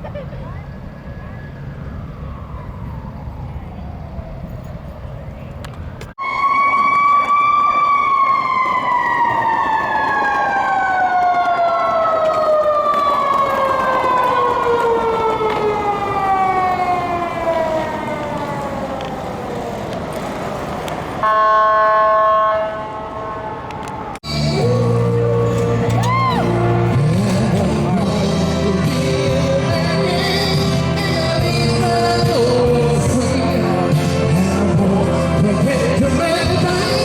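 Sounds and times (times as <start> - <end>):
traffic rumble: 0.0 - 37.0
emergency vehicle siren: 0.3 - 37.0
lower siren tone: 0.7 - 5.5, 6.2 - 20.0, 21.2 - 33.2.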